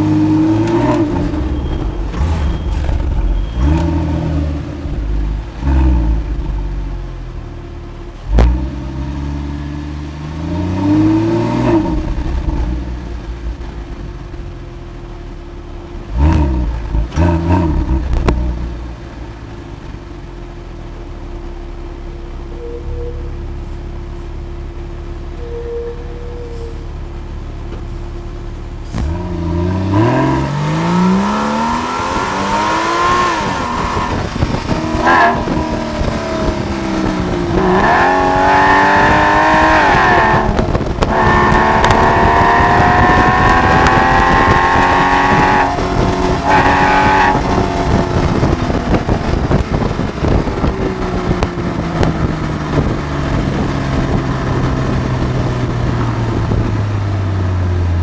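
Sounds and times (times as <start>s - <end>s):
sports car engine accelerating: 0.0s - 25.4s, 27.0s - 58.0s.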